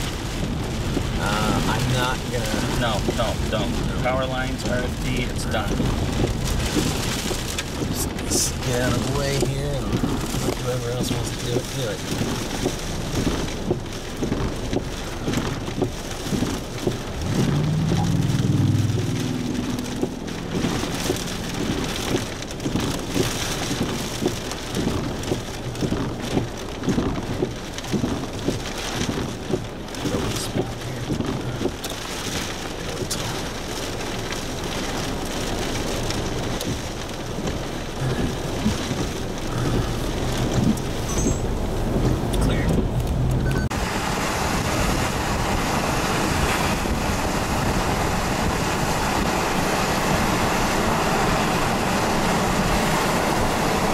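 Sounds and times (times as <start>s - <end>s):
low rumble: 0.0s - 48.6s
heavy rain on vehicle roof: 0.0s - 53.9s.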